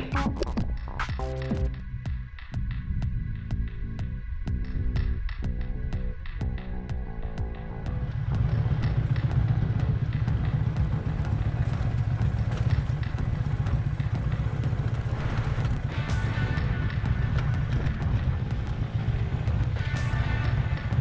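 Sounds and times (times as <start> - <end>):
motorcycle engine droning: 0.0 - 21.0.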